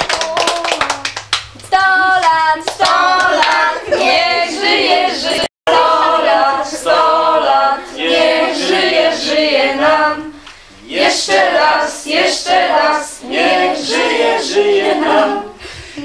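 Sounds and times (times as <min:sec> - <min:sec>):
group singing birthday song: 0:01.6 - 0:16.0.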